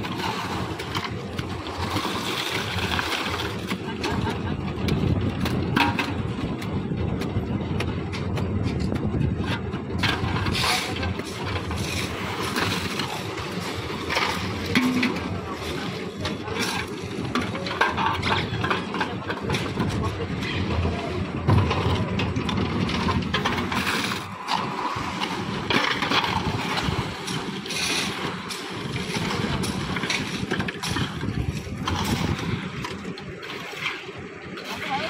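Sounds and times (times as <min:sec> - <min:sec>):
shovel scraping and knocks: 0:00.0 - 0:04.4, 0:08.2 - 0:20.8, 0:21.5 - 0:34.0
concrete mixer engine running: 0:00.0 - 0:35.0.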